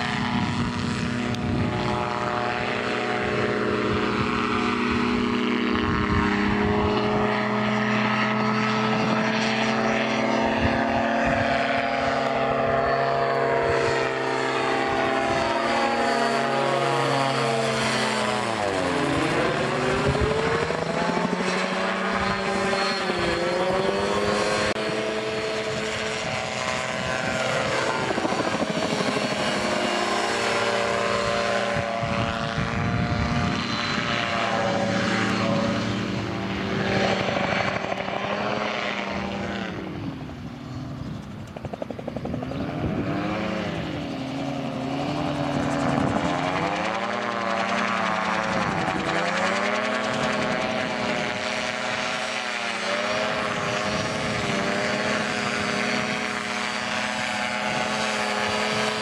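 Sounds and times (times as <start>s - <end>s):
gyroplane engine and propeller: 0.0s - 59.0s.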